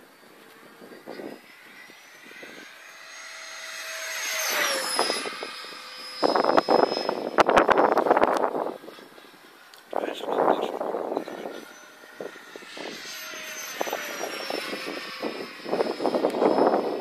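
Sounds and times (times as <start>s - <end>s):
model jet fan whine: 0.0s - 17.0s.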